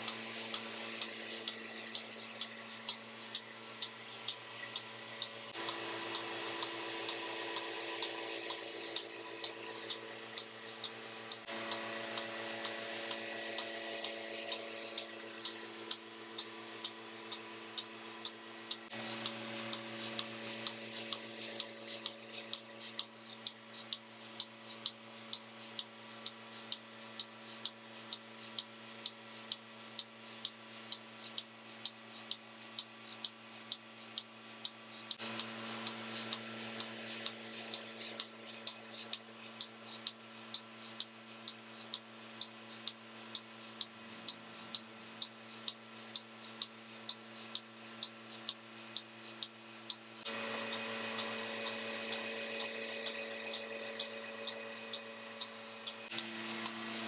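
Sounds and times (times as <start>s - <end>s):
hiss of air and milk: 0.0s - 17.4s, 18.2s - 57.0s
milking machine motor hum: 0.0s - 57.0s
pulsing tick: 0.0s - 57.0s.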